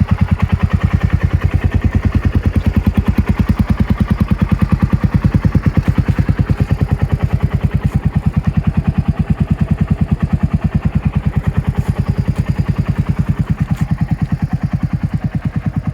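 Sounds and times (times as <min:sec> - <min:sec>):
scooter engine idling: 0:00.0 - 0:15.9.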